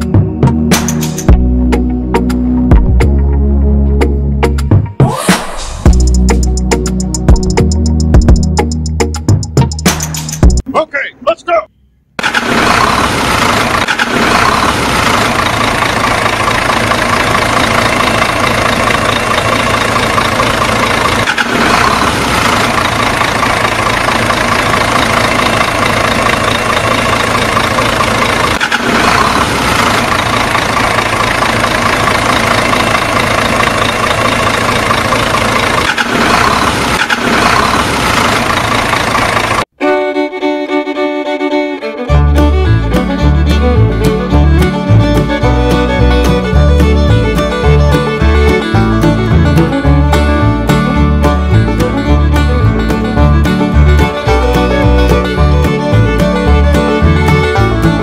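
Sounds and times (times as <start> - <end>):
fiddle and banjo music: 0.0 - 11.1, 13.8 - 22.0, 22.6 - 36.2, 38.9 - 58.0
tractor engine running: 0.0 - 58.0.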